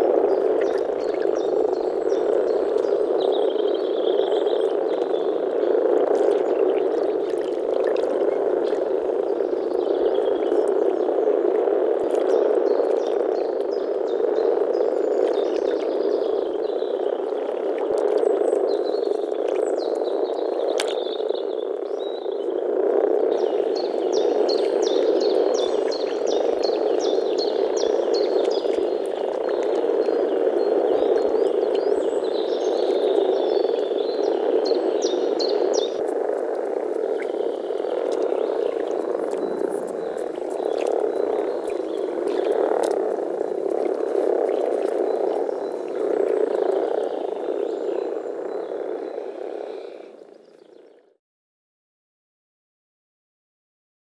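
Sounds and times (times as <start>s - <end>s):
frogs calling in chorus: 0.0s - 51.2s.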